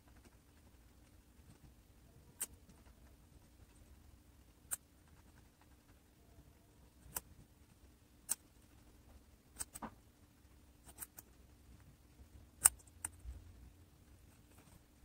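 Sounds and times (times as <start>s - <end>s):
guinea pig chewing vegetables: 0.0s - 15.0s.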